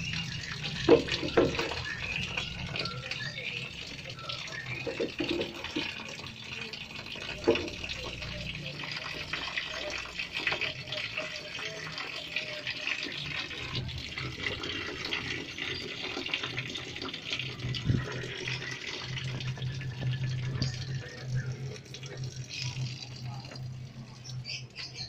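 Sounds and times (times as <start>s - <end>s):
birds chattering: 0.0s - 25.0s.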